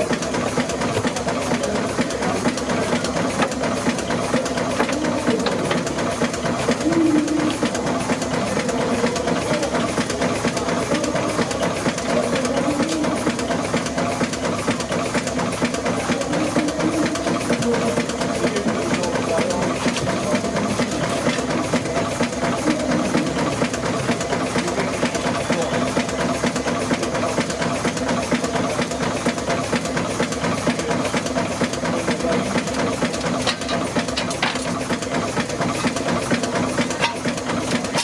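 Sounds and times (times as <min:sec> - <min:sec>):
steam engine running: 0:00.0 - 0:38.0.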